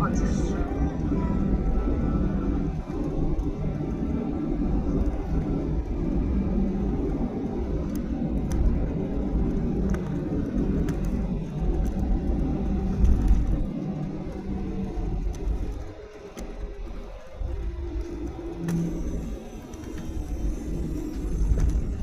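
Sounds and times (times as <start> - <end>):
jet cabin engine rumble: 0.0 - 22.0.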